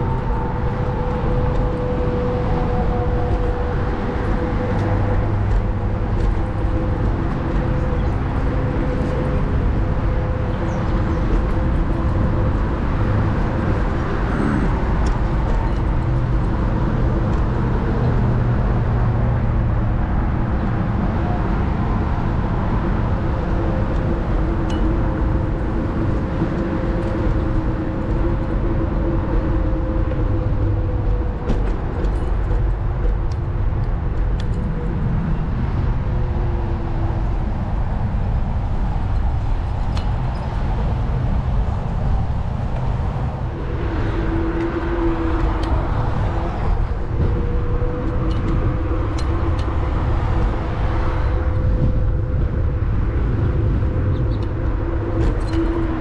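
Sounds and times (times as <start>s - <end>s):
road rumble: 0.0s - 56.0s
wind noise: 0.0s - 56.0s.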